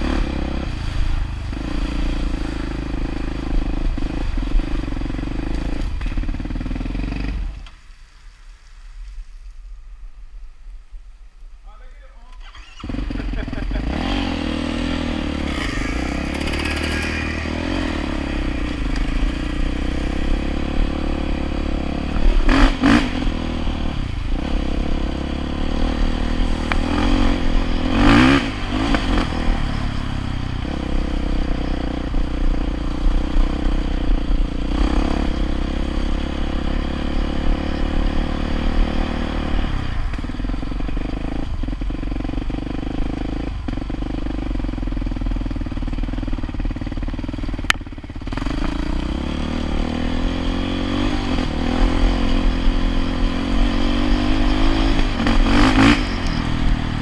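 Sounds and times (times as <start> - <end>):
off-road vehicle engine revving: 0.0 - 7.6, 12.4 - 57.0.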